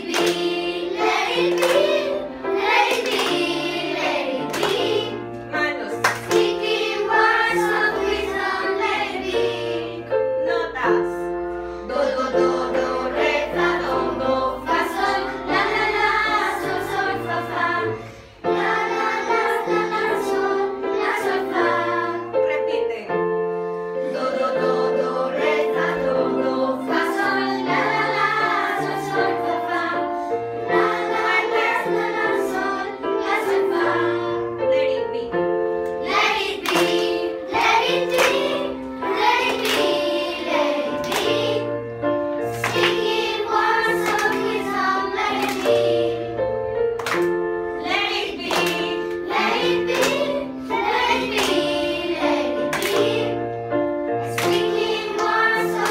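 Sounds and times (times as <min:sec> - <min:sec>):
children singing: 0:00.0 - 0:05.2, 0:06.3 - 0:10.3, 0:11.9 - 0:22.4, 0:24.0 - 0:34.7, 0:36.0 - 0:41.8, 0:42.6 - 0:46.6, 0:47.2 - 0:53.5, 0:54.3 - 0:55.9.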